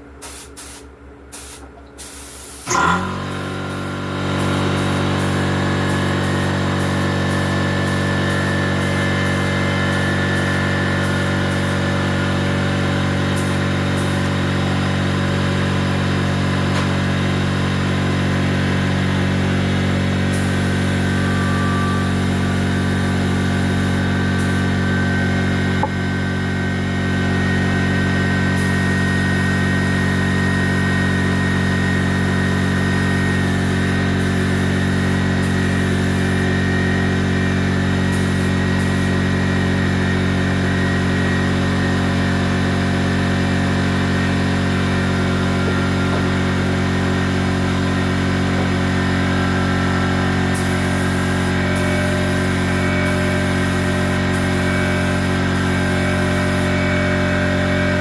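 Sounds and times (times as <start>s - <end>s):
motor running steadily: 2.6s - 58.0s.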